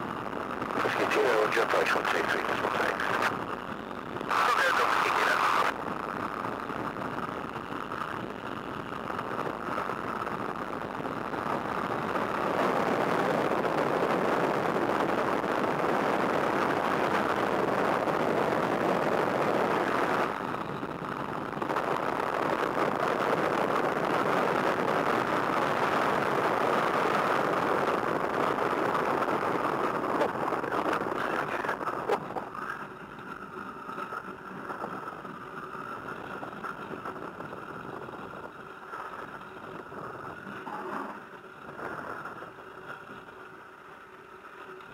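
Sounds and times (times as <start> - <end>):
propeller plane engine running: 0.0 - 44.9.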